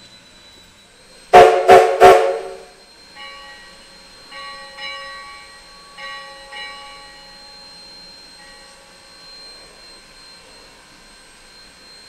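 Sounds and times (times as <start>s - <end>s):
steam chime whistle blasts: 0.0s - 12.0s.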